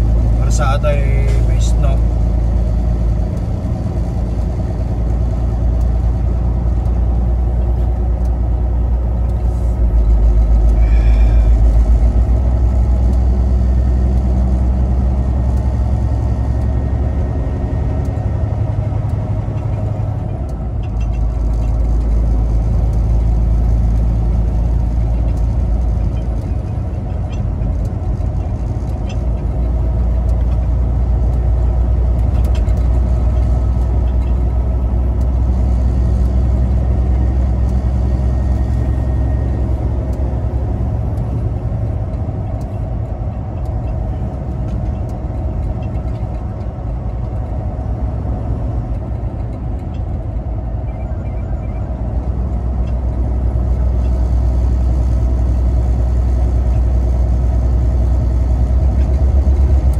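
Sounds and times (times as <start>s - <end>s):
truck engine and road noise: 0.0s - 59.9s.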